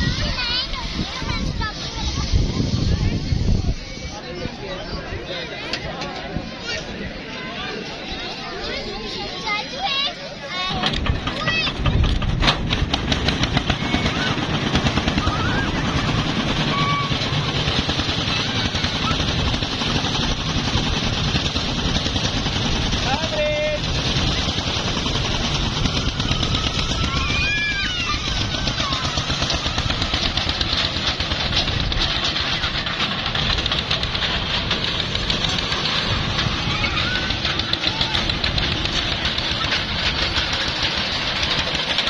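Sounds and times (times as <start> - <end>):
kiddie ride train rattling: 0.0 - 42.0.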